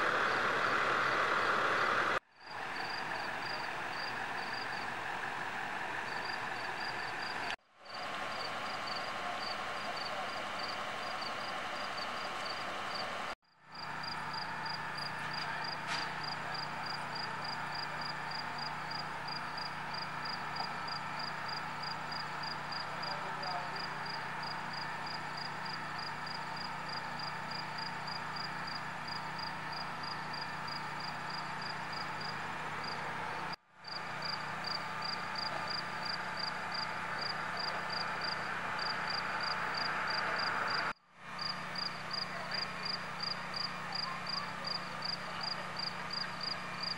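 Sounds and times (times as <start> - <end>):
vehicle engines idling: 0.0 - 46.9
crickets chirping: 2.4 - 4.9, 6.0 - 13.1, 13.7 - 23.1, 23.8 - 33.0, 33.9 - 40.8, 41.4 - 46.9.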